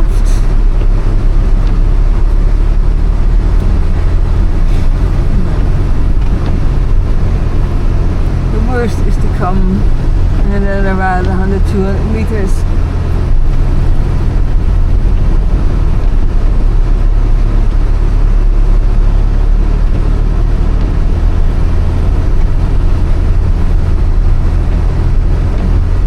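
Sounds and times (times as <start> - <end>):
car engine drone: 0.0 - 26.0
road noise: 0.0 - 26.0.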